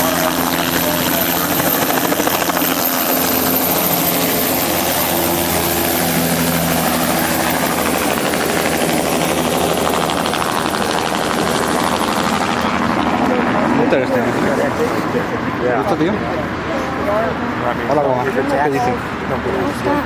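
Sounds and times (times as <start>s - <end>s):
helicopter turbine and rotor: 0.0s - 20.0s.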